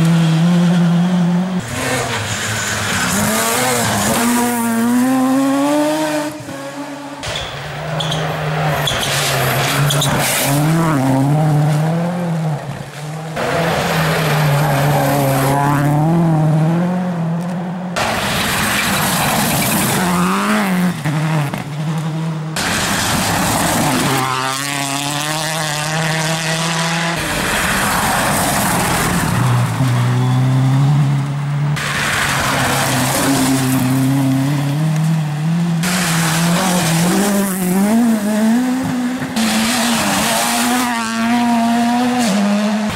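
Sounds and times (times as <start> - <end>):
rally car engines revving: 0.0 - 42.9.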